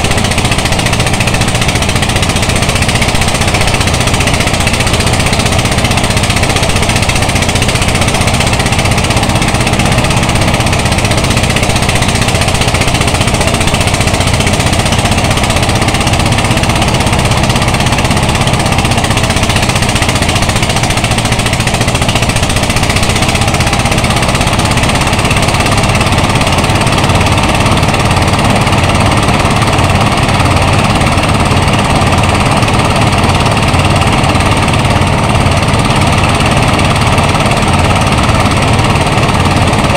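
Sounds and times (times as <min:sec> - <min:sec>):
rice thresher clattering: 0:00.0 - 0:39.9.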